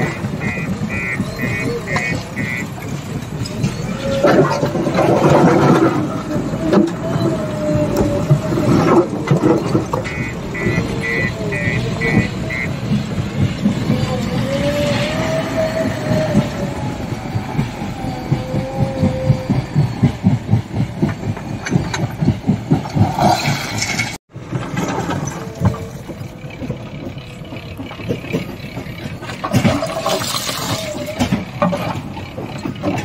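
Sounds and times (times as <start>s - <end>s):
diesel engine working under load: 0.0s - 33.0s.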